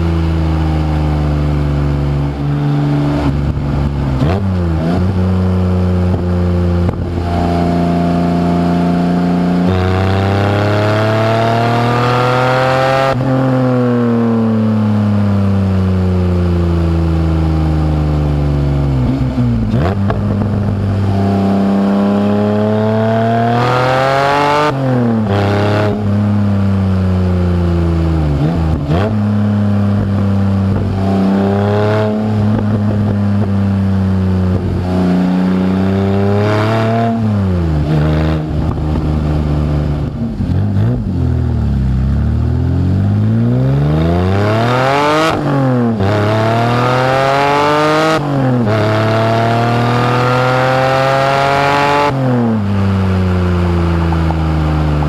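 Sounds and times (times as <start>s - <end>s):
car engine revving through gears: 0.0s - 14.6s, 18.4s - 26.3s, 27.7s - 55.0s.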